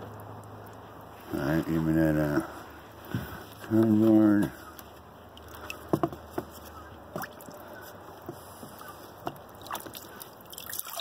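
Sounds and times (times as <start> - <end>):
light splashes and drips: 0.0 - 11.0
water sloshing in a bucket: 0.0 - 11.0.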